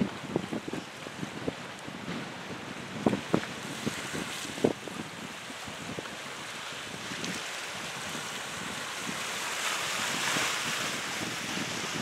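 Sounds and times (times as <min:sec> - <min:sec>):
choppy waves: 0:00.0 - 0:12.0
wind buffeting microphone: 0:00.0 - 0:12.0.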